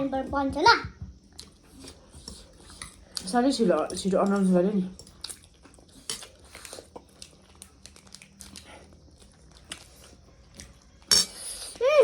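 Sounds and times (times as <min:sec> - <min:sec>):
soft chewing and biting: 0:01.2 - 0:11.8.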